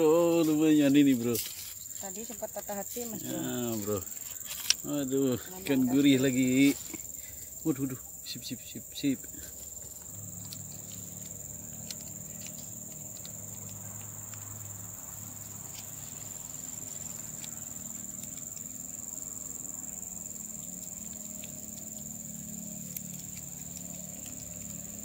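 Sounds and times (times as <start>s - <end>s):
insects shrilling: 0.0s - 25.0s.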